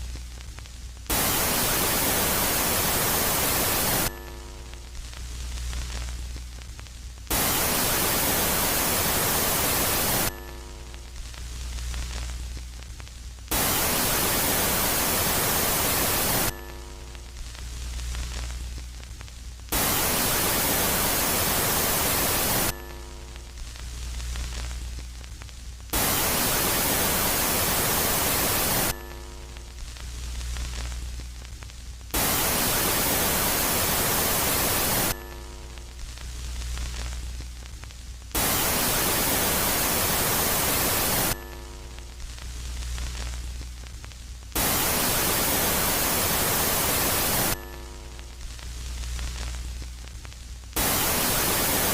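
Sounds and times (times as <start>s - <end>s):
static hiss: 0.0s - 51.9s.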